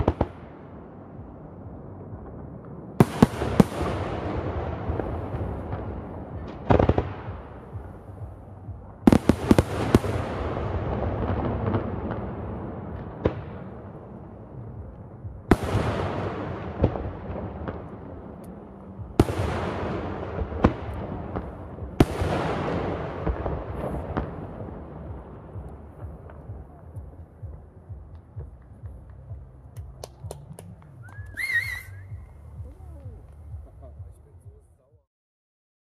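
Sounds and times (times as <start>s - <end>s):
long rolling echo: 0.0s - 34.0s.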